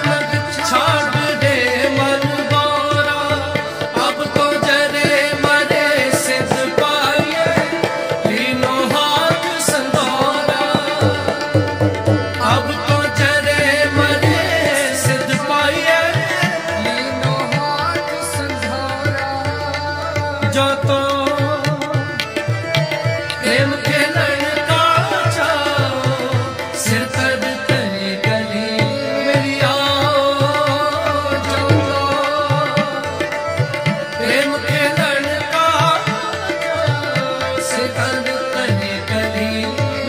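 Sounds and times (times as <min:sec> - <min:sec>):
fast tabla drumming: 0:00.0 - 0:40.0
harmonium: 0:00.0 - 0:40.0
man singing: 0:00.0 - 0:40.0.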